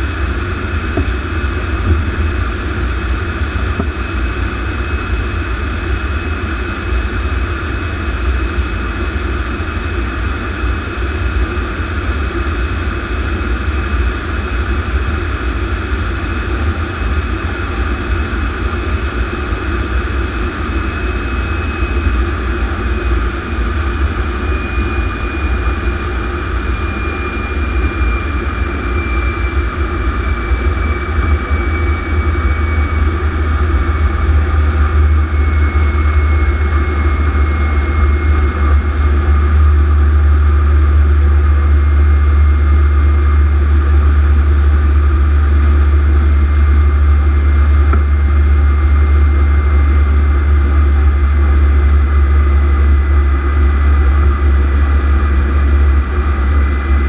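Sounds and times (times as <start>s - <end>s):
jet engine whine and rumble: 0.0s - 57.0s.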